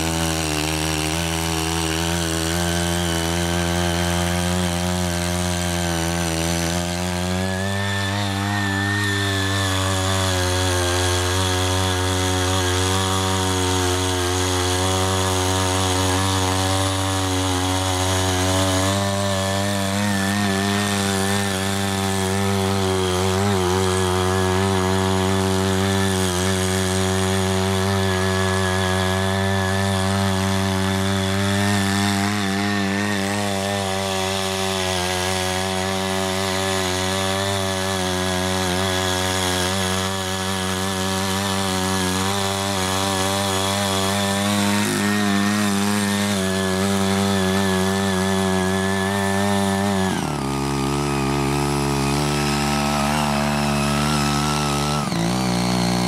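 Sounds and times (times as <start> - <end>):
rotary tines tilling soil: 0.0 - 56.0
small engine running steadily: 0.0 - 56.0.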